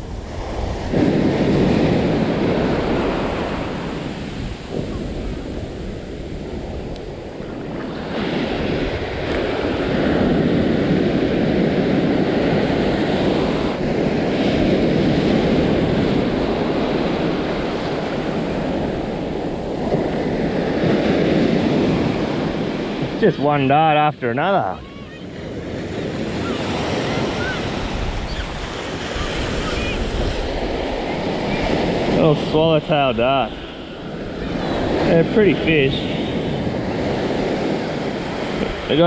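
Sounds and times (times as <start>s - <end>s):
ocean surf breaking: 0.0s - 39.0s
wind on microphone: 0.0s - 39.0s.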